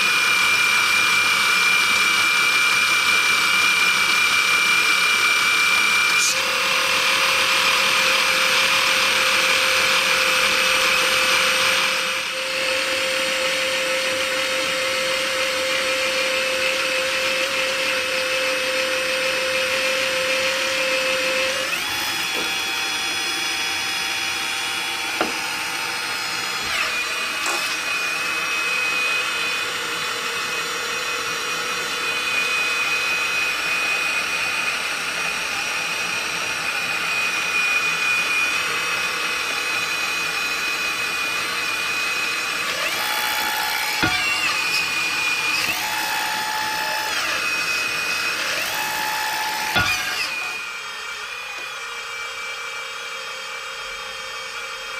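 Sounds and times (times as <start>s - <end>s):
electric motor and pump whine: 0.0s - 54.9s.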